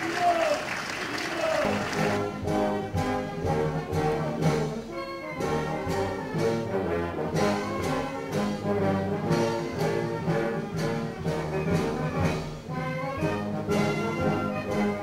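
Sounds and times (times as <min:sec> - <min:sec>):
brass band playing a march: 0:01.6 - 0:15.0.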